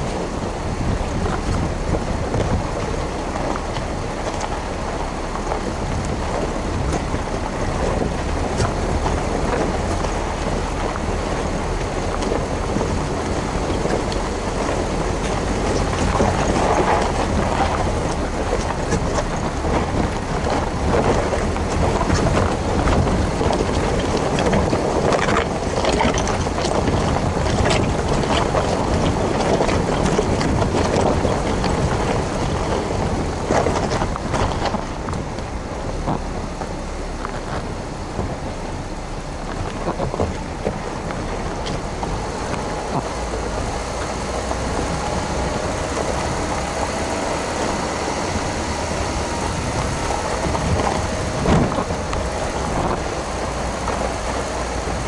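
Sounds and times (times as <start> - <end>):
car engine: 0.0 - 55.0
wind on microphone: 0.0 - 55.0.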